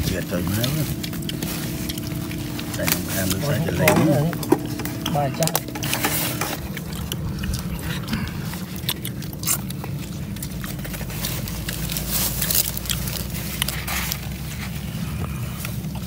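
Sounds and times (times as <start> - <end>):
chewing and biting: 0.0 - 16.0
low background rumble: 0.0 - 16.0.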